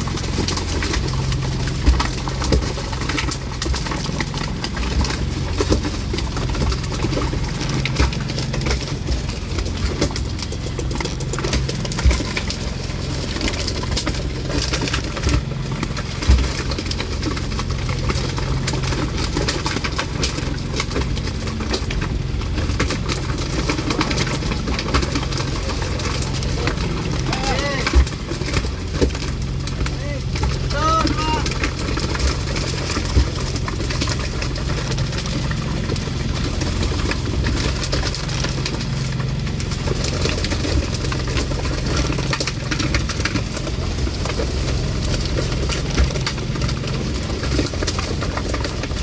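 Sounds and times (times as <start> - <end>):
constant rushing noise: 0.0 - 49.0
engine humming: 0.0 - 49.0.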